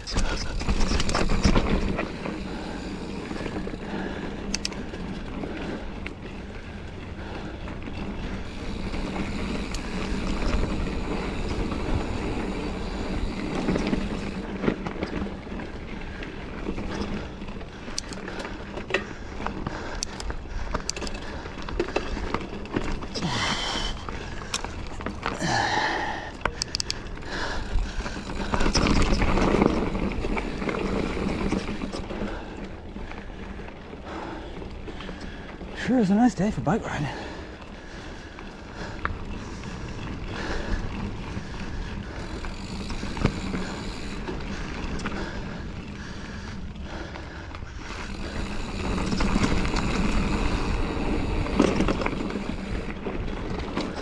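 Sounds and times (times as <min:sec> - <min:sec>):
bike chain and frame rattling: 0:00.0 - 0:54.0
bike tyres rolling on dirt and rock: 0:00.0 - 0:54.0.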